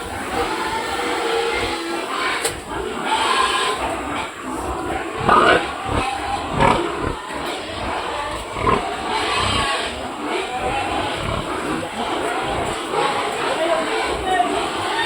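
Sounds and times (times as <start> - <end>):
pigs grunting and squealing: 0.0 - 15.0.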